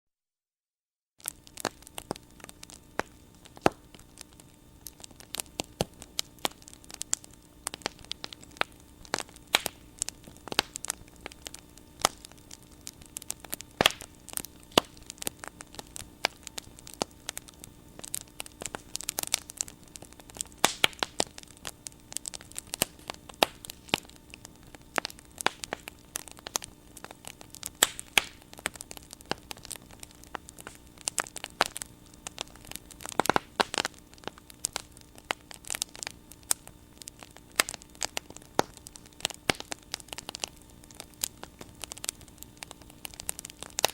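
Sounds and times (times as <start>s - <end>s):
bonfire crackling: 1.2s - 43.9s
faint steady hum: 1.2s - 43.9s.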